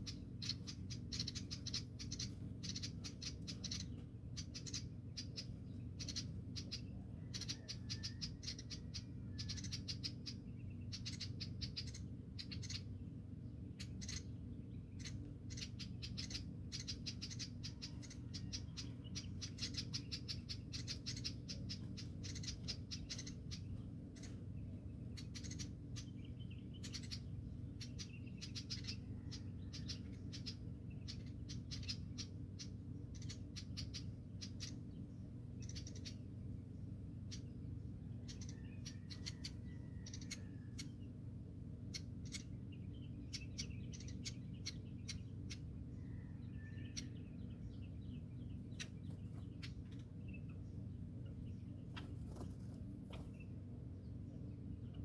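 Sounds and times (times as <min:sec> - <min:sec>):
birds chirping: 0:00.0 - 0:55.0
steady low hum: 0:00.0 - 0:55.0.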